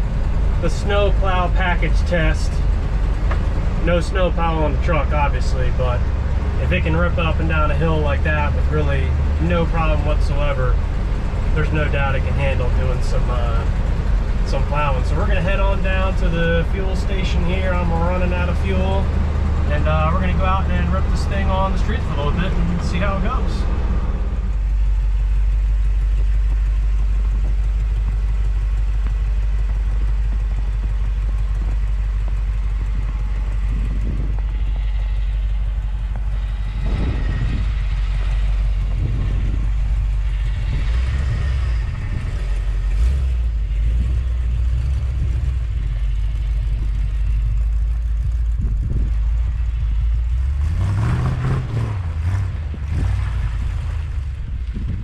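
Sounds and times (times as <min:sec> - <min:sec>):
engine revving: 0:00.0 - 0:55.0
pickup truck engine rumbling: 0:00.0 - 0:55.0.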